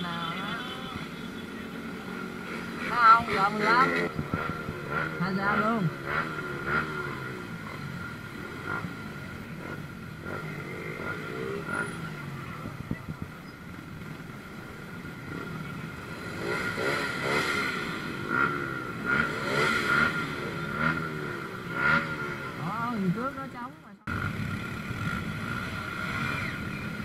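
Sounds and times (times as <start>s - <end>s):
motorbike engines revving: 0.0s - 27.0s.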